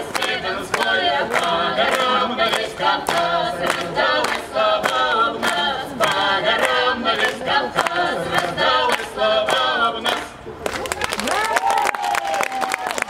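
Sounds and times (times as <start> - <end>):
group singing in harmony: 0.0 - 10.5
hand claps: 0.0 - 13.0.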